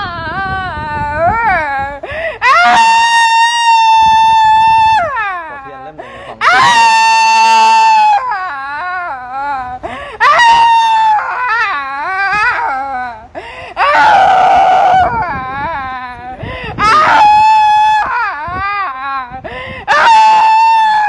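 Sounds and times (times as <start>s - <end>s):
woman screaming and wailing: 0.0s - 21.0s
woman sobbing cries: 0.0s - 21.0s.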